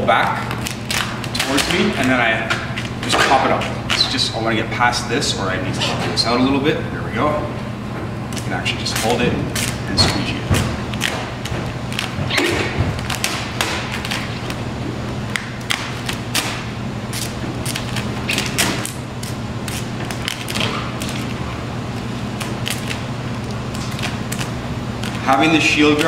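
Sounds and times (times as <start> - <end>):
squeegee scraping vinyl film: 0.0 - 4.3, 8.3 - 14.7, 15.3 - 26.0
low steady hum: 0.0 - 26.0.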